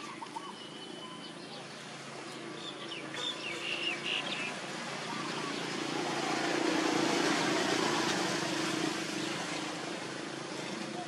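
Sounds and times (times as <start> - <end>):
motor vehicle passing: 2.1 - 11.0.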